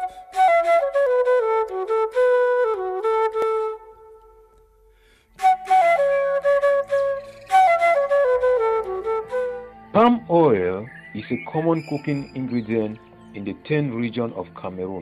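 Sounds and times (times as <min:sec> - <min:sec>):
flute melody: 0:00.0 - 0:14.5.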